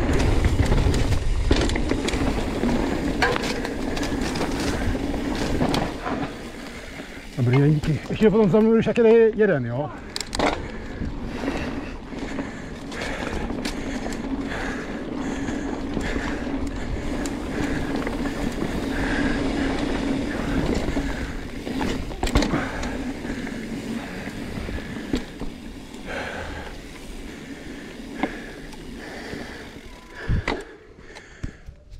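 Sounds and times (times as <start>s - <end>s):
bike tyres rolling on dirt: 0.0s - 31.9s.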